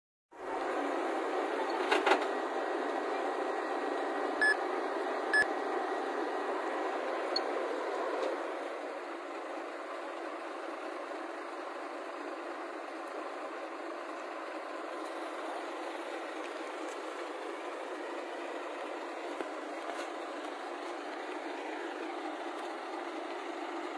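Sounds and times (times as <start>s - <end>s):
truck engine running: 0.4s - 23.9s.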